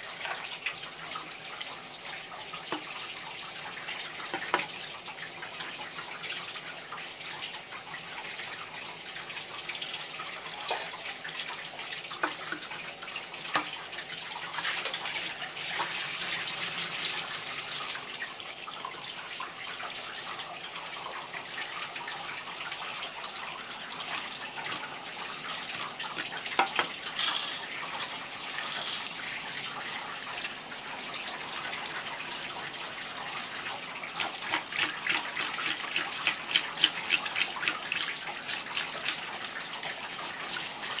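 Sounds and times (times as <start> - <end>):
water running from a hose: 0.0 - 41.0.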